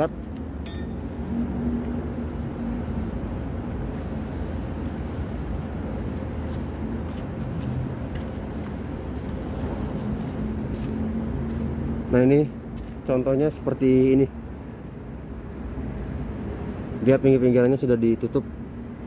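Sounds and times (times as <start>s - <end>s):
construction site rumble and hum: 0.0s - 19.0s.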